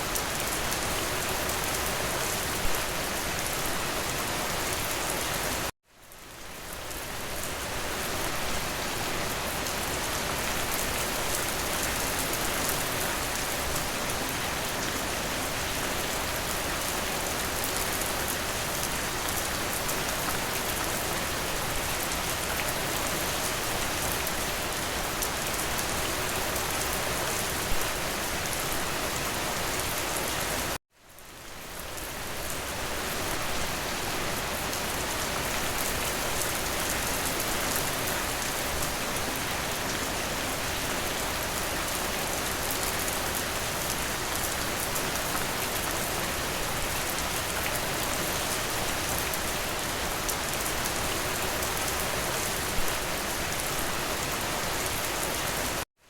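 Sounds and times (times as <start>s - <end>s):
rain on a hard surface: 0.0s - 55.9s.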